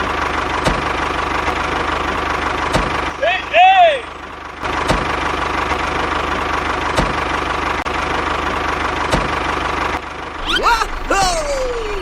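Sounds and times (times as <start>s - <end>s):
small tractor motor running: 0.0s - 12.0s.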